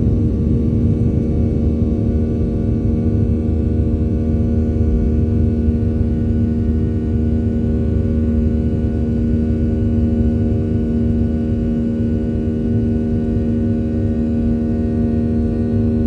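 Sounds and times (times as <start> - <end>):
jet engines roaring at takeoff: 0.0 - 16.0.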